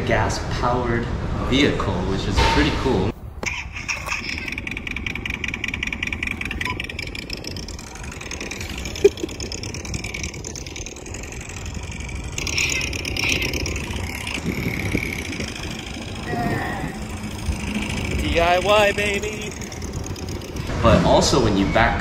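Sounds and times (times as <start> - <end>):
synthetic engine sound from speakers: 3.4 - 22.0.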